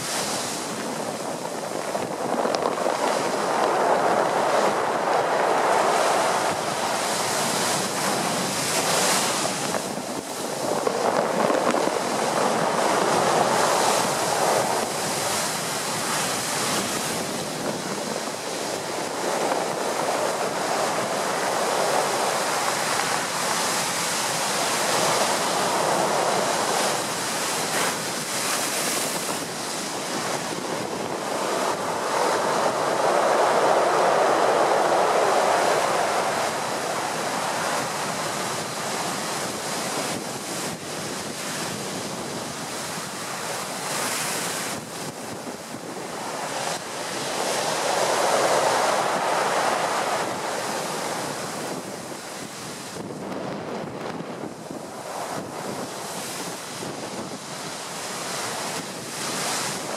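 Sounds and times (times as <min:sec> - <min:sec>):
surf breaking against sea wall: 0:00.0 - 0:59.9
wind buffeting microphone: 0:00.0 - 0:59.9.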